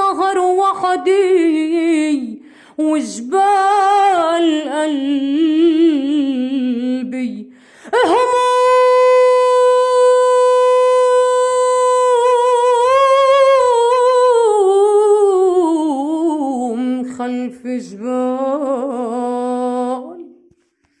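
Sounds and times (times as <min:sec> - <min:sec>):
person singing unaccompanied: 0:00.0 - 0:20.5.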